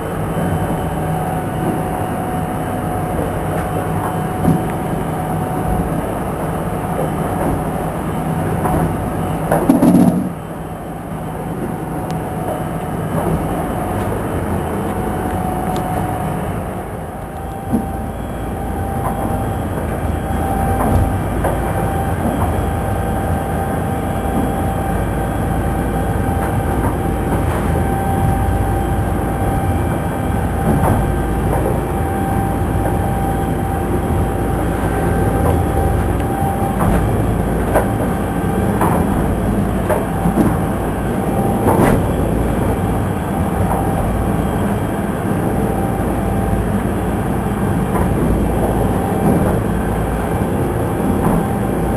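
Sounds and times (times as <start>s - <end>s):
boat engine running: 0.0s - 51.9s
heavy rumbling noise: 0.0s - 51.9s
hull knocking and slapping on waves: 0.0s - 51.9s.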